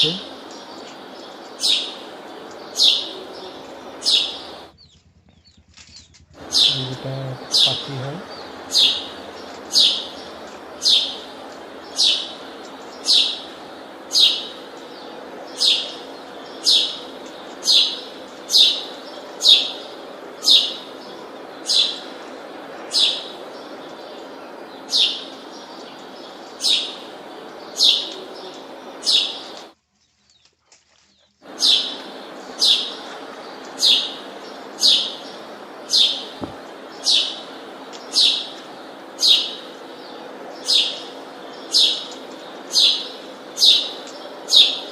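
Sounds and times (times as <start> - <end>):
bird chirping: 0.0 - 44.9.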